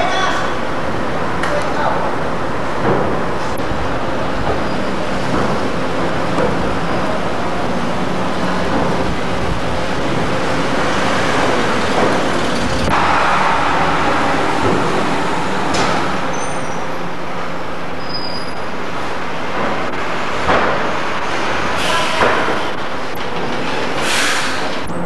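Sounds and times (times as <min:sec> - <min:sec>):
engine and machinery din: 0:00.5 - 0:25.0.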